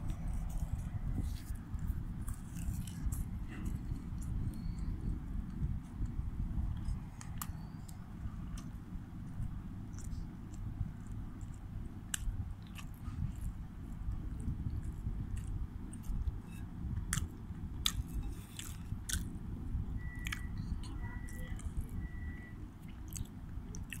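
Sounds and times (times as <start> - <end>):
low rumble: 0.0 - 23.7
child chewing and smacking: 0.0 - 24.0.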